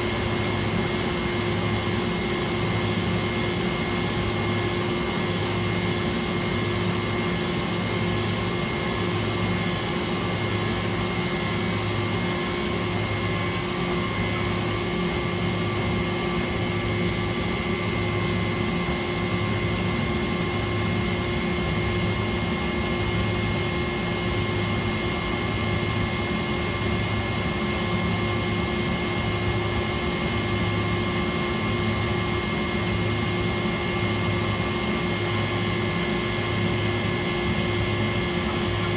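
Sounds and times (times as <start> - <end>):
machine drone with whines: 0.0 - 38.9.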